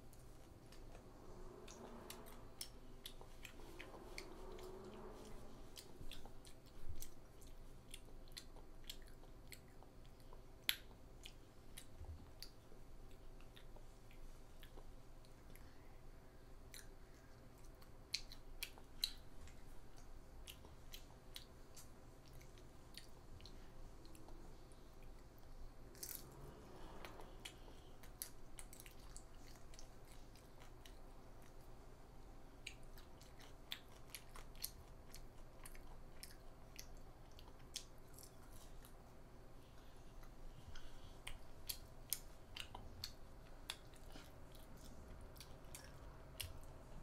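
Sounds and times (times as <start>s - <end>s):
child chewing food: 0.0s - 47.0s.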